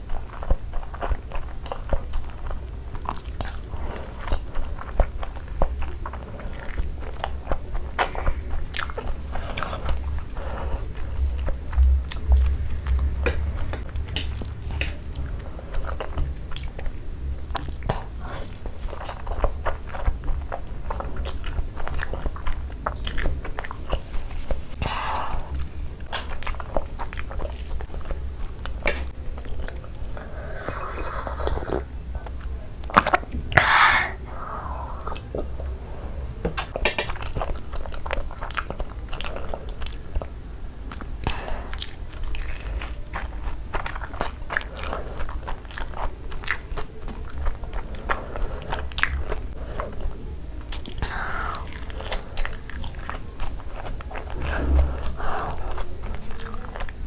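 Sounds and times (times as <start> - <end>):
close chewing with mouth clicks: 0.0 - 34.2, 36.4 - 57.0.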